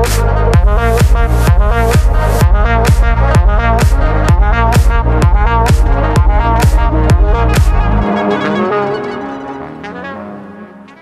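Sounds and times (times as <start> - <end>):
electronic melody of held notes: 0.5 - 11.0.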